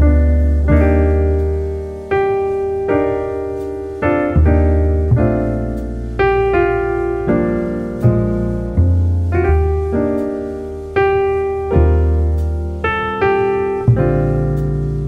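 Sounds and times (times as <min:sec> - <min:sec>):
deep piano bass notes: 0:00.0 - 0:15.0
solo piano jazz chords: 0:00.0 - 0:15.0.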